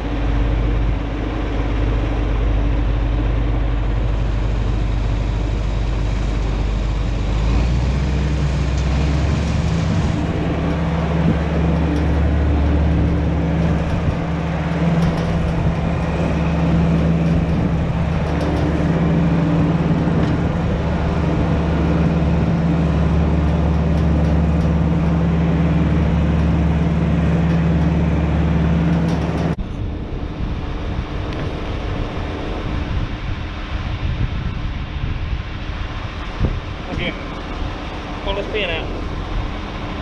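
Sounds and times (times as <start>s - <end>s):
low rough engine rumble: 0.0s - 40.0s
tractor diesel engine running: 0.0s - 40.0s.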